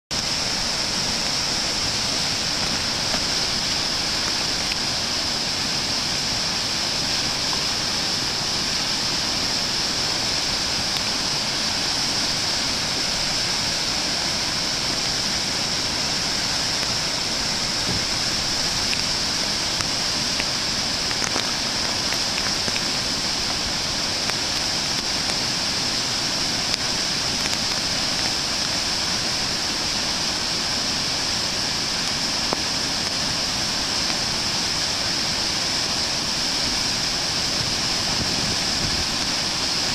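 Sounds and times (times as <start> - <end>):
water rushing over spillway: 0.1 - 39.9.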